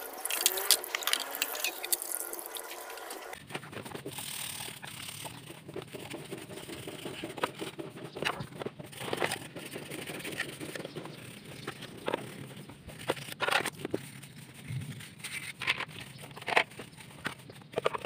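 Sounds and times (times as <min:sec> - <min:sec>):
brush scrubbing wet plastic: 0:00.0 - 0:18.0.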